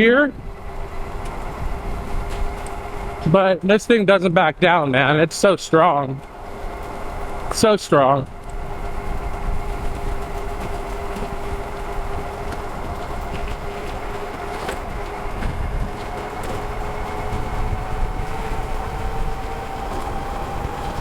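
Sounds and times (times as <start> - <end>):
electric hub motor whining: 0.0 - 3.7, 5.8 - 21.0
wind and tyre rumble: 0.0 - 21.0.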